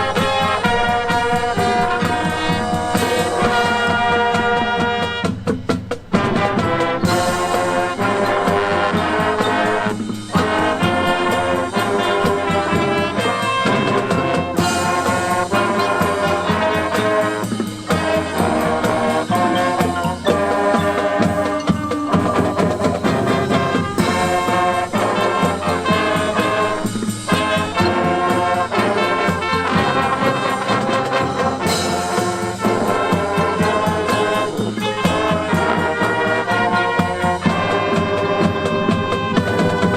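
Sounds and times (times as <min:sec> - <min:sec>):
brass held chords: 0:00.0 - 0:39.9
drumline steady beat: 0:00.0 - 0:39.9.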